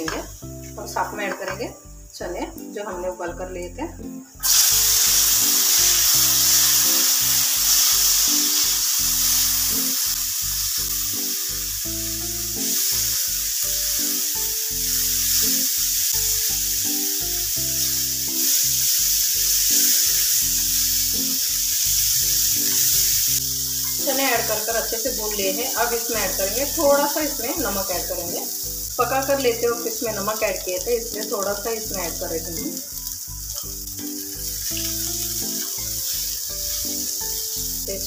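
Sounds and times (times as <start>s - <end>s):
chickpeas sizzling in hot oil: 0.0s - 3.2s, 4.3s - 38.0s.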